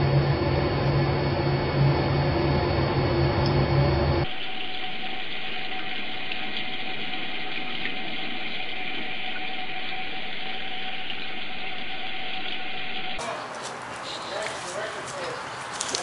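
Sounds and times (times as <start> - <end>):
faint steady whine: 0.0 - 15.6.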